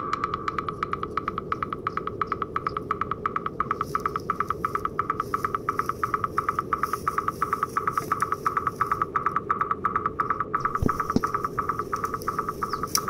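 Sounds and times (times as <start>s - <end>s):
rapid pulsed tone: 0.0s - 13.0s
steady low hum: 0.0s - 13.0s.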